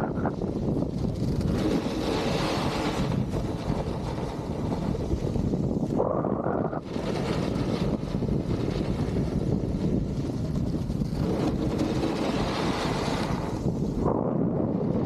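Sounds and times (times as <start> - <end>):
snowboard sliding on snow: 0.0 - 15.0
wind rushing over microphone: 0.0 - 15.0.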